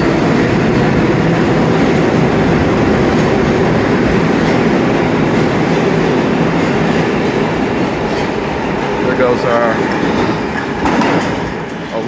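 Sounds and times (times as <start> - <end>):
subway train rumbling past: 0.0 - 12.0.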